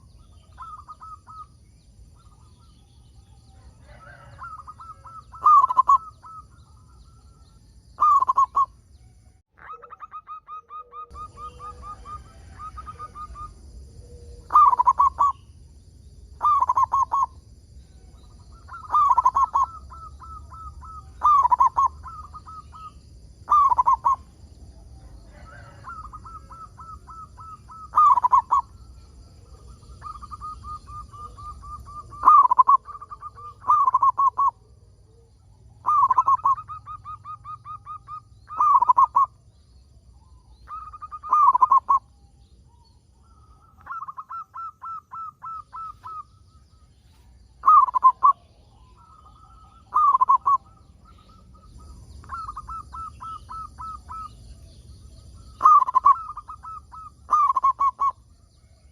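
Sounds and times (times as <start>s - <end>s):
dove cooing: 0.0s - 8.8s, 9.6s - 15.5s, 16.3s - 39.5s, 40.2s - 42.1s, 42.7s - 58.9s.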